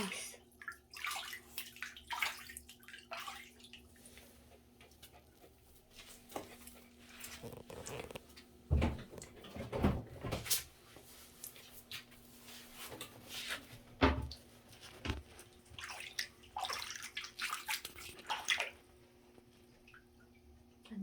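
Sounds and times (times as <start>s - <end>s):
bathwater sloshing and splashing: 0.0s - 20.8s.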